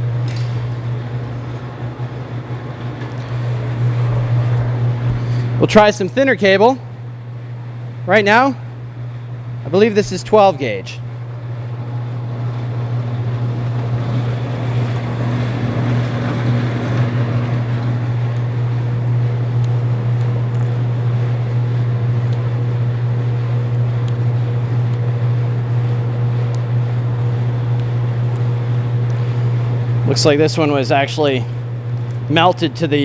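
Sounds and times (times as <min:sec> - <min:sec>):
wire stripping machine humming: 0:00.0 - 0:33.0.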